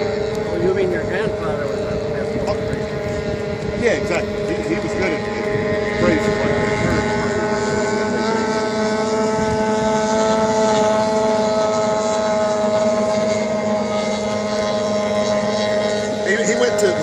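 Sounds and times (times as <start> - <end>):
outboard motor whining: 0.0 - 17.0.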